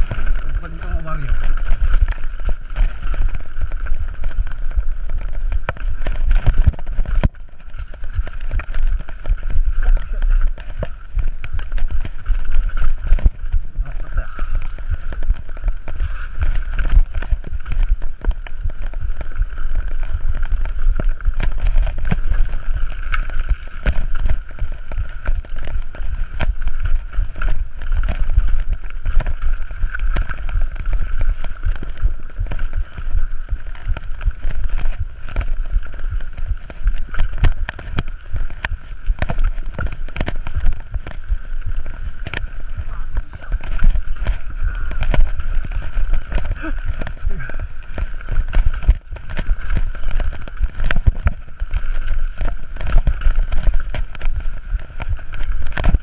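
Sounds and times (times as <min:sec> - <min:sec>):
bike rattling and knocking: 0:00.0 - 0:56.0
wind and tyres on dirt: 0:00.0 - 0:56.0.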